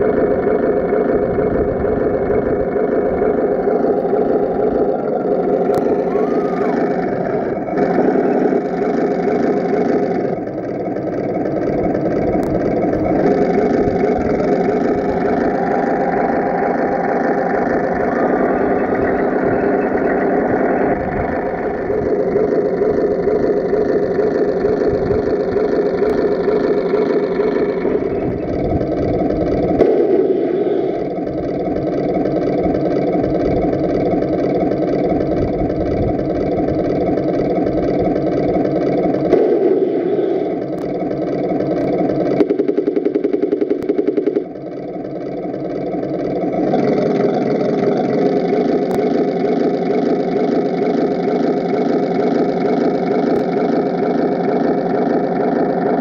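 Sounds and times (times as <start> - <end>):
model tank gears and tracks: 0.0 - 56.0
simulated tank engine sound: 0.0 - 56.0.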